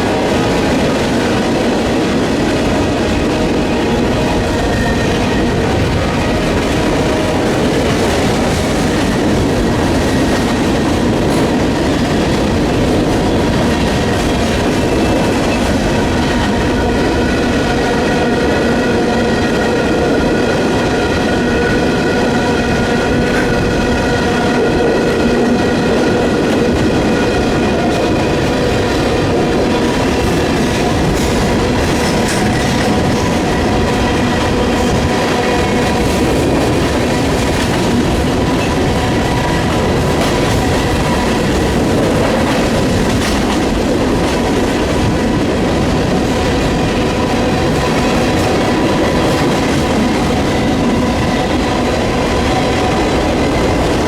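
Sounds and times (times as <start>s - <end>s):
train wheels clicking on rails: 0.0s - 54.0s
wind buffeting microphone: 0.0s - 54.0s.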